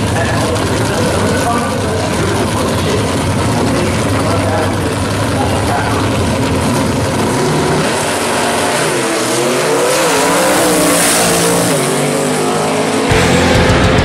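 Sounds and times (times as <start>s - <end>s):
drag car engine at full throttle: 0.0s - 14.0s.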